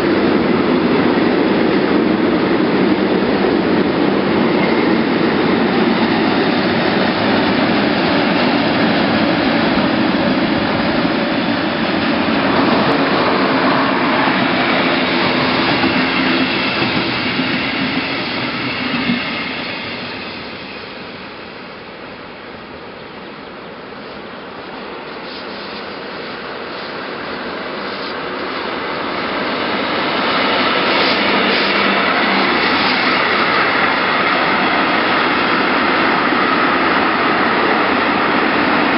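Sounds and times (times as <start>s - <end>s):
train rolling past on track: 0.0s - 38.9s.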